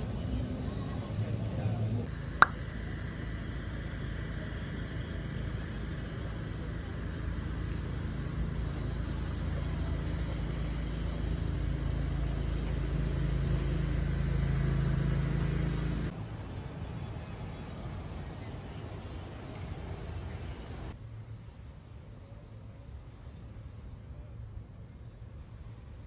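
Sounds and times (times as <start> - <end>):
low engine tone: 0.0 - 26.0
road traffic rumble: 0.0 - 26.0.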